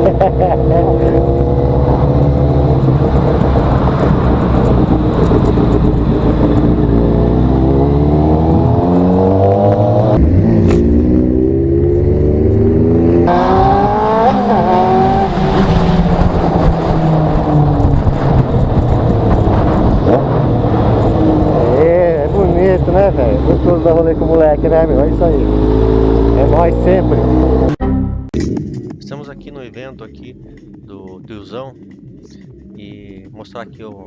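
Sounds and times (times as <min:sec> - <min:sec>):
motorcycle engine accelerating: 0:00.0 - 0:27.8.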